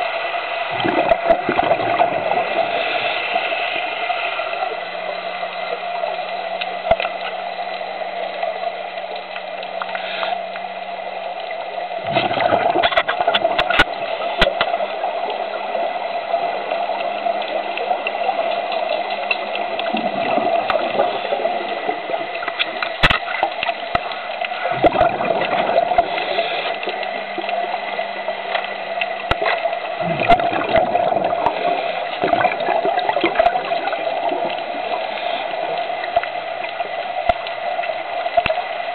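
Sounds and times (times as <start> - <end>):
exhaled bubbles gurgling underwater: 0.0 - 38.9
steady underwater hiss: 0.0 - 38.9.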